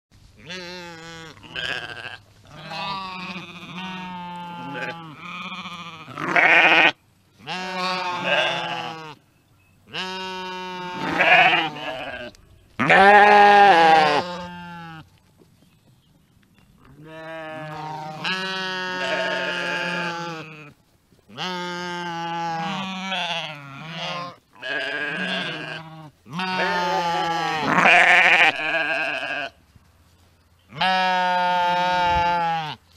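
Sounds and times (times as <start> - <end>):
sheep bleating: 0.4 - 9.2, 9.9 - 15.1, 17.0 - 29.6, 30.7 - 32.8.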